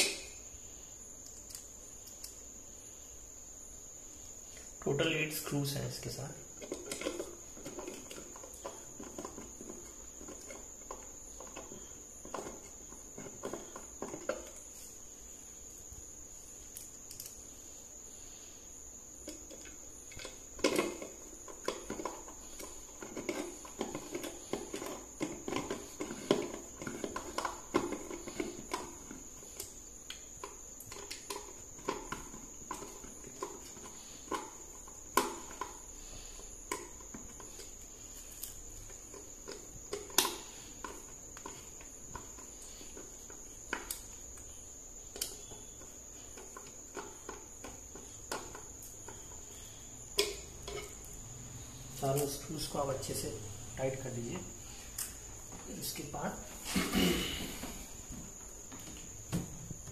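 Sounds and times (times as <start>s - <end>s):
faint high-pitched whine: 0.0s - 59.9s.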